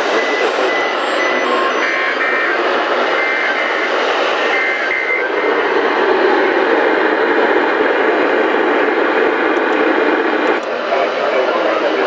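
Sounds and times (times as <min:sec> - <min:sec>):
radio static hiss: 0:00.0 - 0:07.9, 0:09.7 - 0:12.0.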